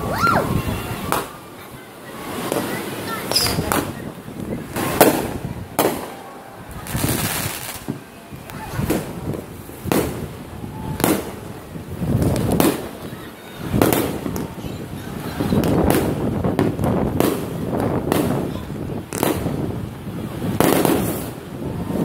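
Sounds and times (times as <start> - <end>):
fireworks bangs with echo: 1.0 - 1.4, 2.4 - 14.6, 15.2 - 22.0.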